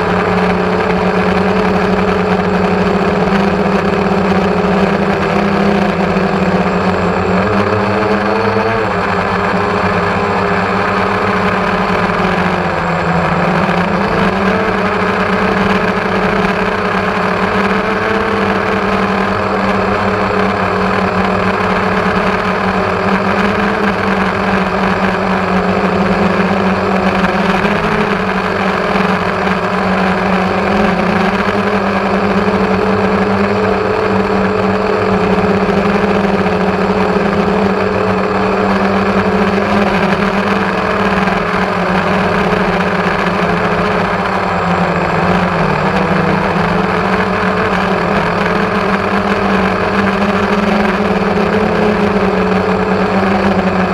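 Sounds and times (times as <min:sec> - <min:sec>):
drone motors humming: 0:00.0 - 0:53.9.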